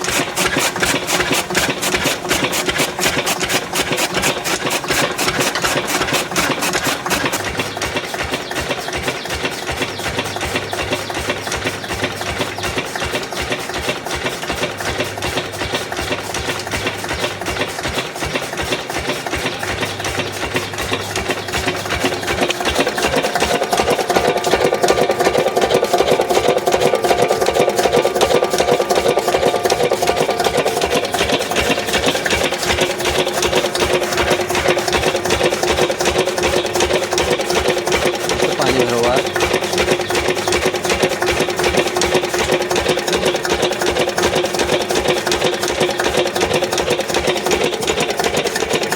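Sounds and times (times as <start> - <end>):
chaff cutter chopping fodder: 0.0 - 48.9
diesel engine running: 0.0 - 48.9.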